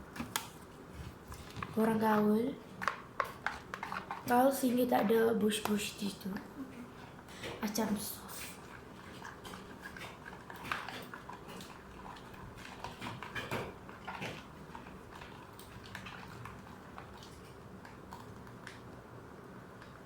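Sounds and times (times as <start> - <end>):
stirring clicks and scrapes in container: 1.2 - 19.0.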